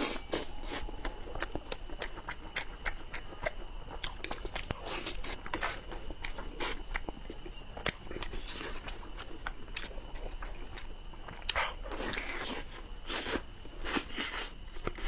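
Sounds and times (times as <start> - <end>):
man chewing and biting meat: 0.0 - 15.0.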